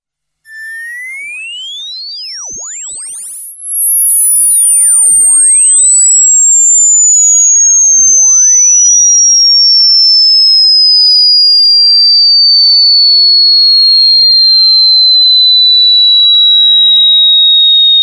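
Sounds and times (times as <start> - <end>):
high pure tone gliding downward: 0.0 - 18.0.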